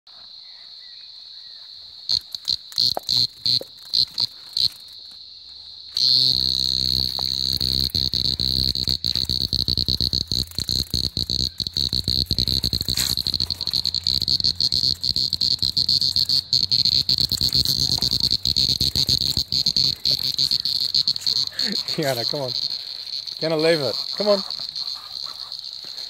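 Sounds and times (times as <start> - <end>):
cicadas droning: 0.1 - 26.0
close cicada buzzing loudly: 0.2 - 26.0.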